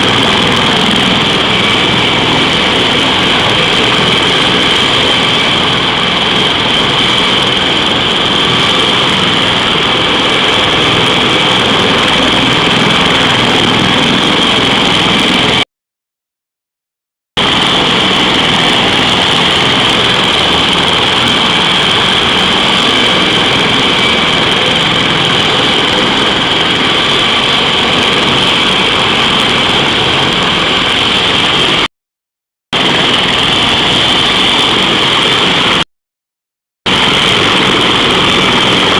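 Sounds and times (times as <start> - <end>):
helicopter engines whining: 0.0 - 15.6, 17.4 - 31.9, 32.8 - 35.9, 36.9 - 38.9
helicopter rotor noise: 0.0 - 15.7, 17.4 - 31.9, 32.7 - 35.9, 36.9 - 38.9.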